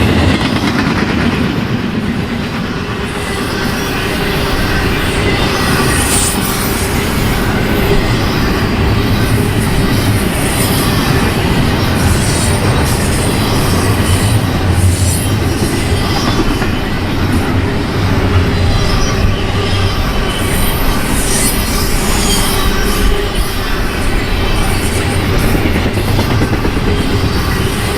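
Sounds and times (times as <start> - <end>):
train wheels rumbling on rail: 0.0 - 27.9
wheel squeal: 3.0 - 27.9.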